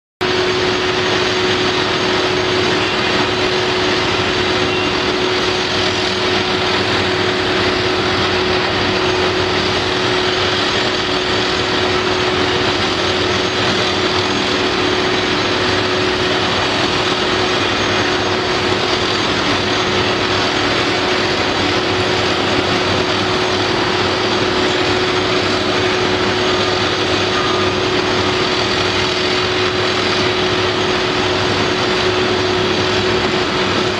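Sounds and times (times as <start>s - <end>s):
constant high whine: 0.2s - 33.9s
construction machinery drone: 0.2s - 33.9s.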